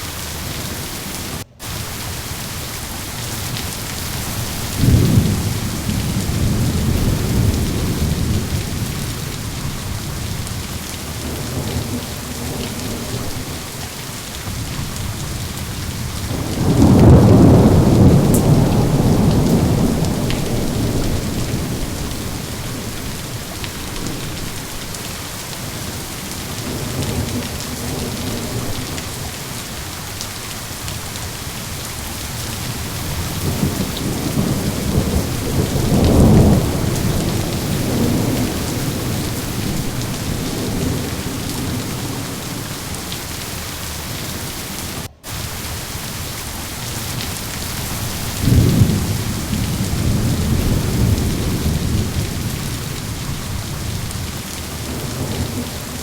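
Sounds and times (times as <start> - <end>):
heavy rain: 0.0 - 56.0
rolling thunder: 3.3 - 25.1, 25.7 - 30.0, 32.3 - 43.4, 46.9 - 56.0.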